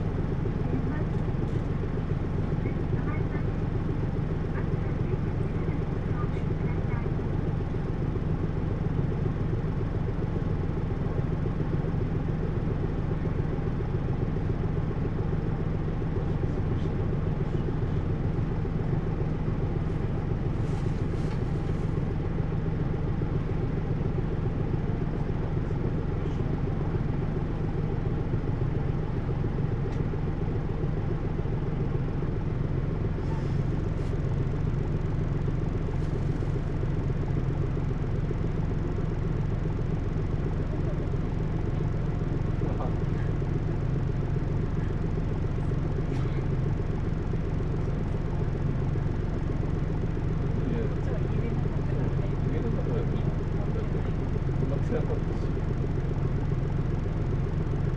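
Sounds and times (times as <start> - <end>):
diesel bus engine droning: 0.0 - 57.9.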